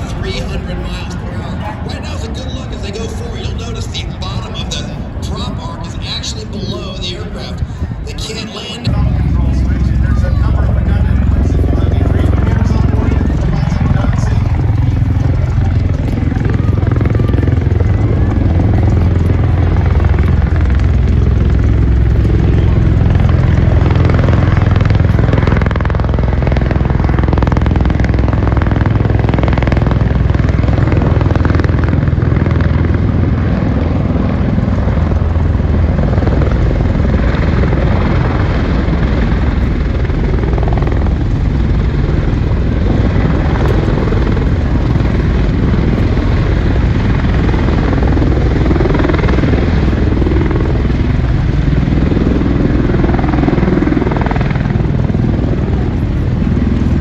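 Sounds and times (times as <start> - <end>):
aircraft engine rumble: 0.0 - 57.0.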